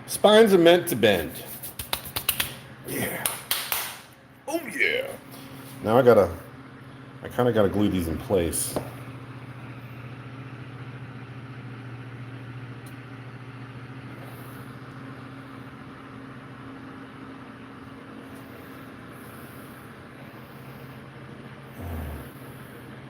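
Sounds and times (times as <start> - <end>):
appliance motor humming: 4.5 - 23.0.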